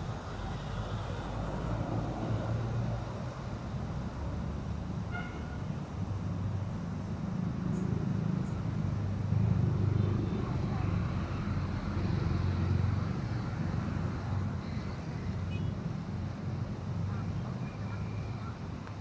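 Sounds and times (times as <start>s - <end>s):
city road traffic rumble: 0.0s - 19.0s.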